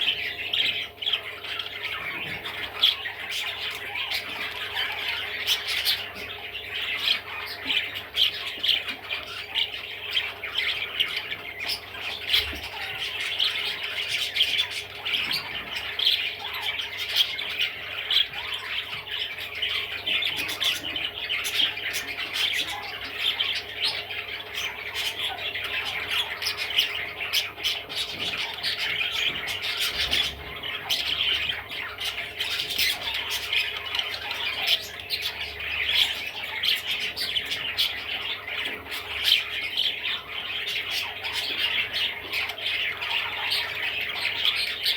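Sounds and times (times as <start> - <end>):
budgerigar chattering: 0.0 - 44.9.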